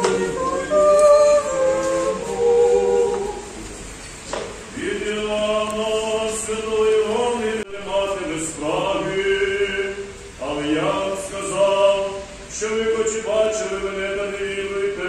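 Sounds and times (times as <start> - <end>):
choir chanting without instruments: 0.0 - 3.6, 4.7 - 15.0.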